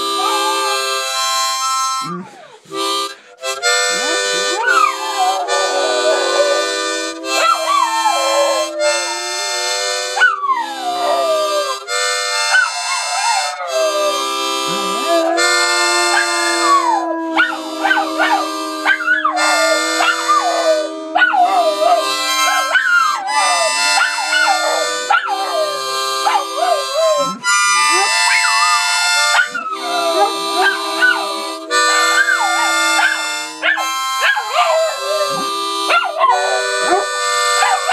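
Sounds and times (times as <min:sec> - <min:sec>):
dog howling: 0:00.0 - 0:01.0, 0:03.9 - 0:37.9
harmonica playing chords: 0:00.0 - 0:37.9.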